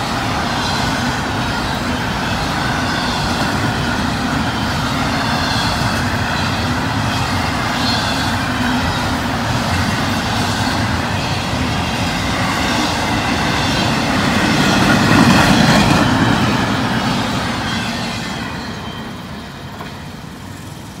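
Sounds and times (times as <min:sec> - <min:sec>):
freight train wheels clattering on rails: 0:00.0 - 0:21.0.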